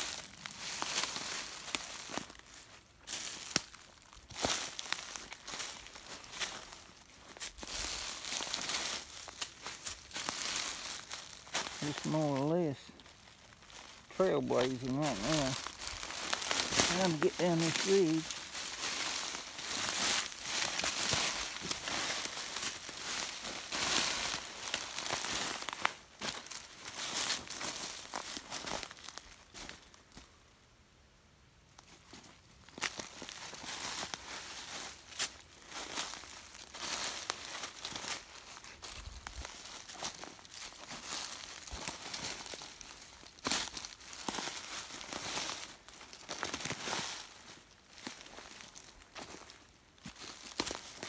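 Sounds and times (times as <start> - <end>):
footsteps crunching dry leaves: 0.0 - 30.4, 31.8 - 51.0.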